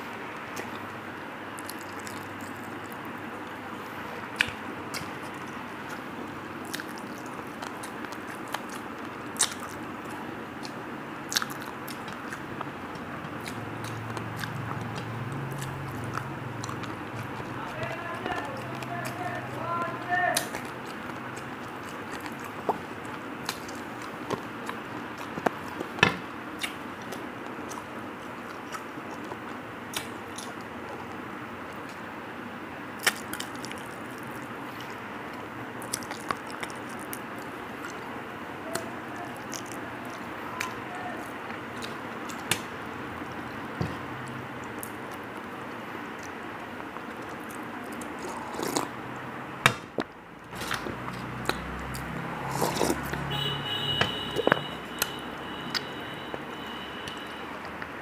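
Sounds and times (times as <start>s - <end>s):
chewing and finger licking: 0.4s - 3.6s, 4.3s - 26.0s, 26.6s - 32.0s, 33.0s - 38.1s, 38.7s - 42.6s, 44.2s - 49.0s, 50.5s - 53.3s, 54.3s - 57.9s.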